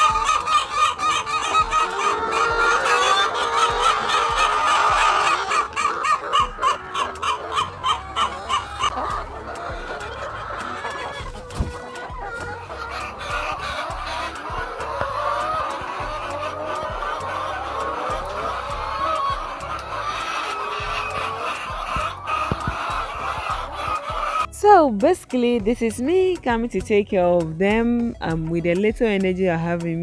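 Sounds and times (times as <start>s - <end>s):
chickens clucking: 0.0s - 24.5s.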